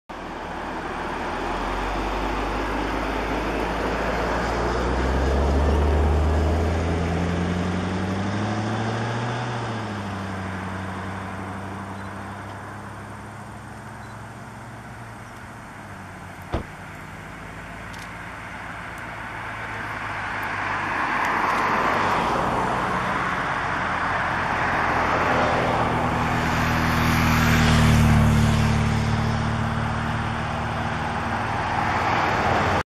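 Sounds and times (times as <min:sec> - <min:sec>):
vehicle approaching with tyre noise: 0:00.1 - 0:32.8
vehicle engine pulling away: 0:00.1 - 0:32.8.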